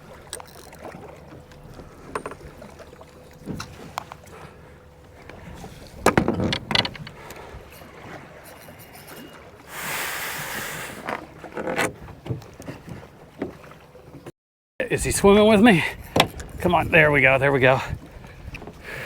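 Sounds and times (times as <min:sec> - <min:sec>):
knocks and clatter on boat: 0:00.0 - 0:09.7, 0:11.0 - 0:14.3, 0:15.1 - 0:19.0.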